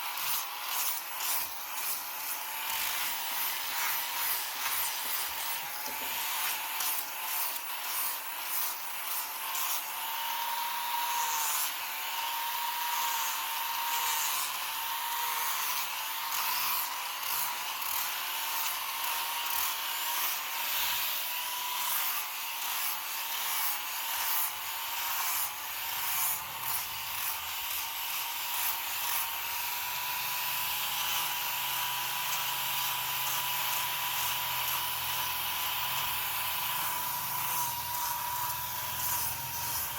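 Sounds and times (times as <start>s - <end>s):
cutter scraping wood: 0.0s - 39.9s
electric carving tool whining: 0.0s - 39.9s.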